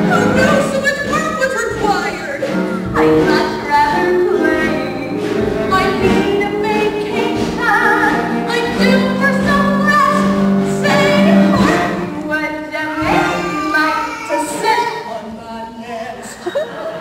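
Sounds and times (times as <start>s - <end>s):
musical accompaniment: 0.0s - 15.5s.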